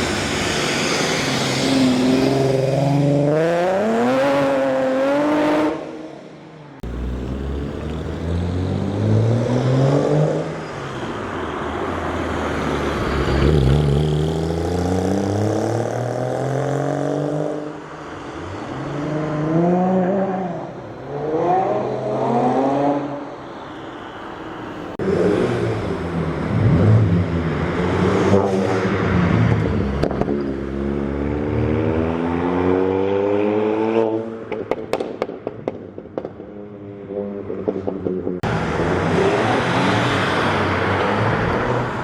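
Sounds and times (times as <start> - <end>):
car passing with tyre noise: 0.0 - 6.0, 6.8 - 42.0
car engines revving: 0.0 - 6.1, 6.7 - 23.4, 24.8 - 42.0.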